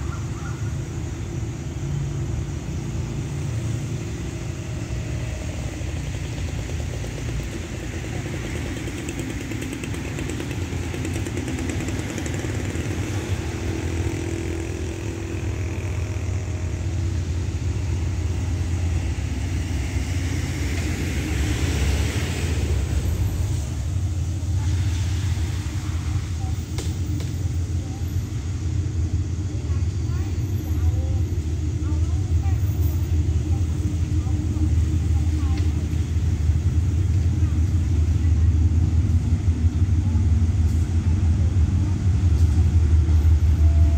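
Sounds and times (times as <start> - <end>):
locomotive engine rumble: 0.0 - 43.9
train rushing hiss: 0.0 - 43.9.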